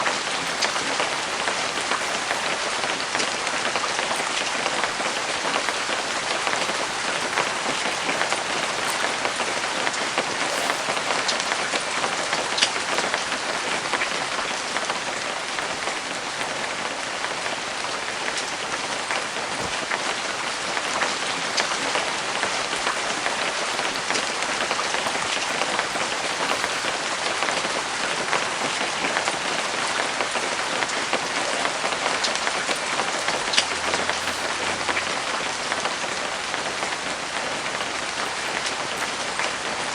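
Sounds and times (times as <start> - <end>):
rain on canvas: 0.0 - 39.9.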